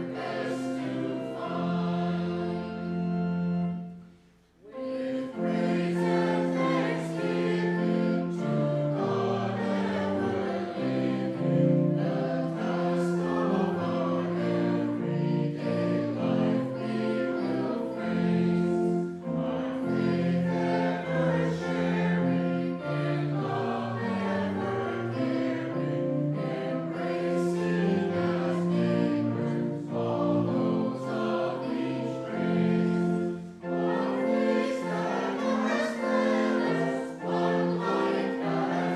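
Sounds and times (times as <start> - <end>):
instrumental accompaniment: 0.0 - 38.9
voices singing a hymn: 0.0 - 38.9.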